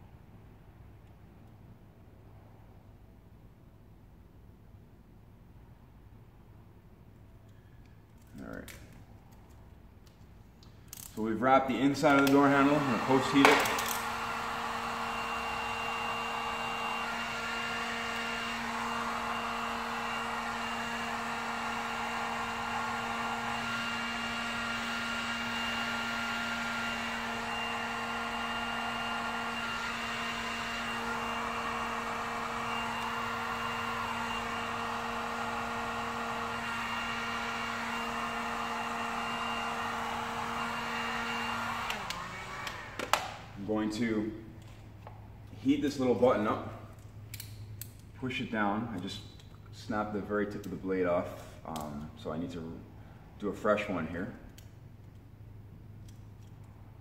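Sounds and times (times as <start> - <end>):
heat gun fan blowing: 7.2 - 57.0.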